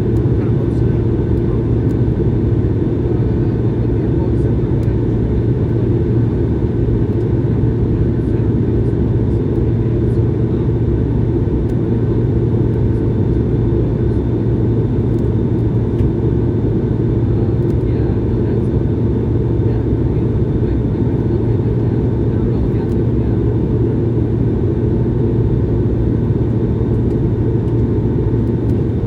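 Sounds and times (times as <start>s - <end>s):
airplane cabin roar: 0.0s - 29.0s
faint steady whines: 0.0s - 29.0s.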